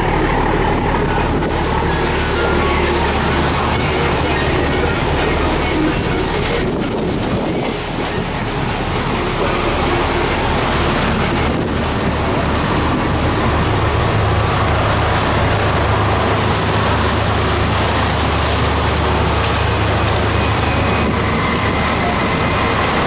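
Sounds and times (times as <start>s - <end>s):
ship engine humming: 0.0s - 23.0s
waves breaking against hull: 0.0s - 23.0s
wind on microphone: 2.9s - 23.0s.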